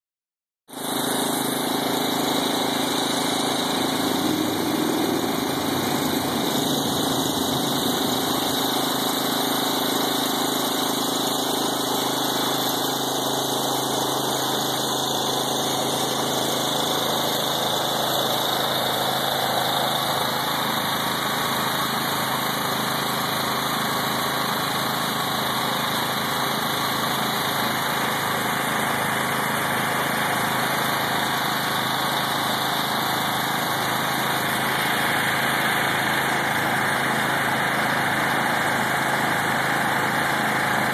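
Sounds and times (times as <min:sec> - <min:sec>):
pressure washer engine running: 0:00.7 - 0:40.9.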